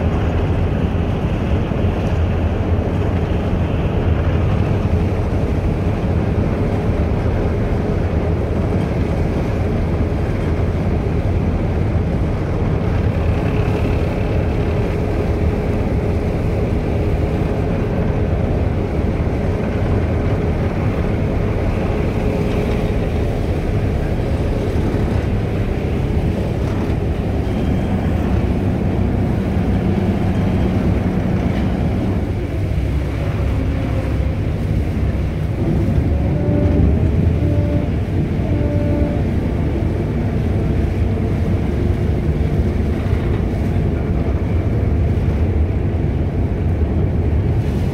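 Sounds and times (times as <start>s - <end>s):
ferry engines droning: 0.0s - 47.9s
water rushing along hull: 0.0s - 47.9s.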